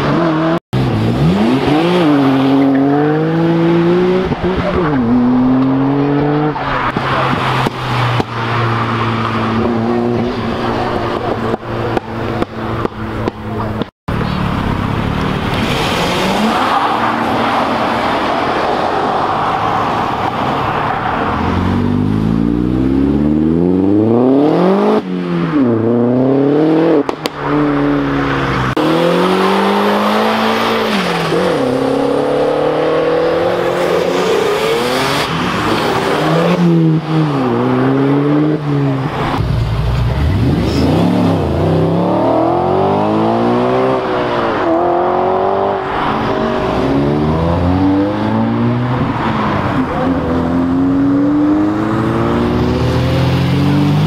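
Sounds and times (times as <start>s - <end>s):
cars accelerating hard: 0.0s - 54.0s.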